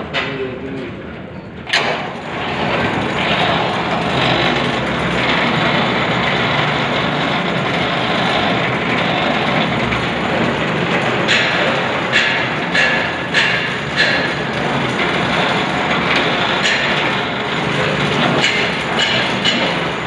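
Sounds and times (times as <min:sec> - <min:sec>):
machine humming and hissing: 0:01.7 - 0:20.0.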